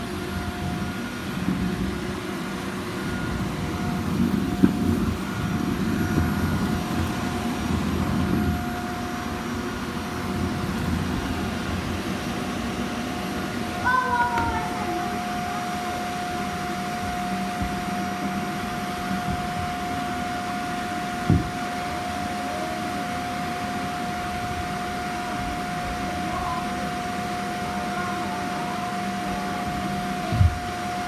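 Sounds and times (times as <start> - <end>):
robot vacuum whine: 0.0 - 31.0.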